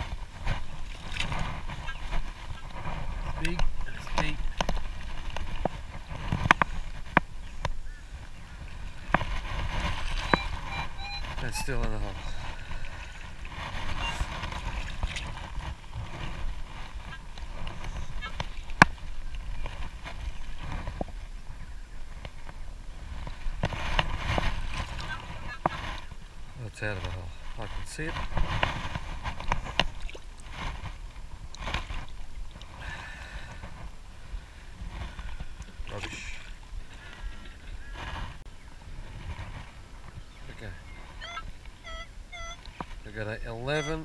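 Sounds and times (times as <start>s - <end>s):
water sloshing around feet: 0.0s - 38.4s
wind rumble on microphone: 0.0s - 44.0s.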